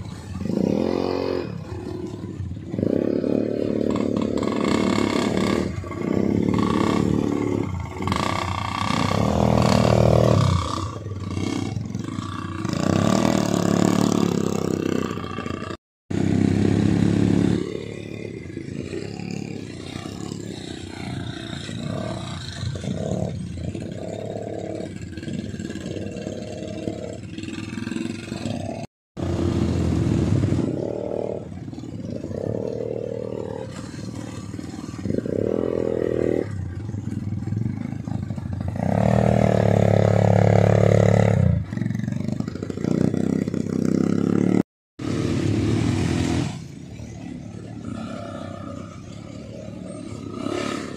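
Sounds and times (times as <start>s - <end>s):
quad bike engines revving: 0.0s - 50.9s.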